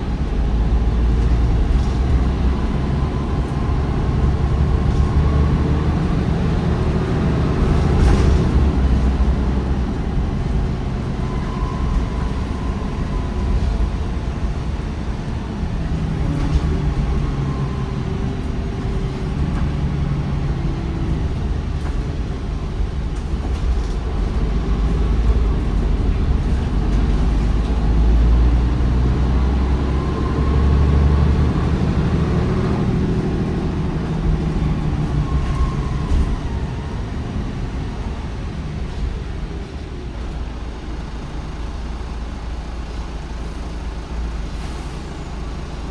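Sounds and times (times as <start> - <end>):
bus engine rumble: 0.0 - 45.9
road speed whine: 0.0 - 45.9.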